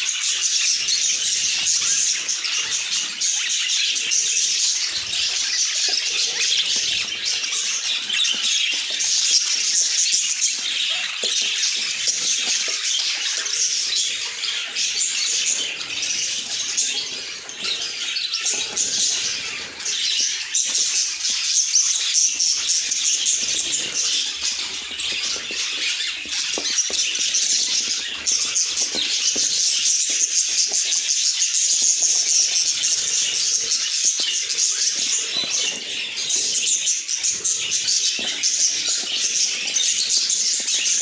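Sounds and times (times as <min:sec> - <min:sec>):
budgerigars chirping and chattering: 0:00.0 - 0:41.0.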